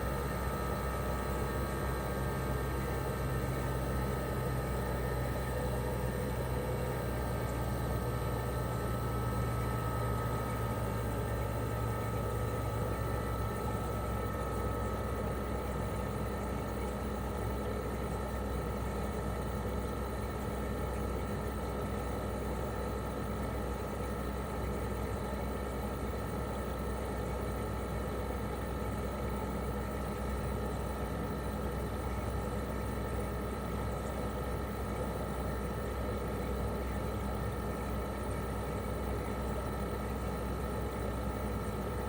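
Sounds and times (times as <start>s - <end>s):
air conditioner compressor humming: 0.0s - 42.0s.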